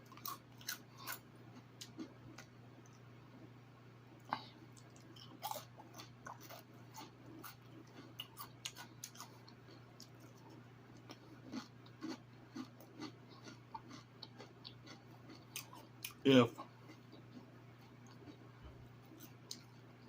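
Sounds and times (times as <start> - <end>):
person chewing: 0.0 - 3.0, 4.2 - 19.9
steady low hum: 0.0 - 20.0.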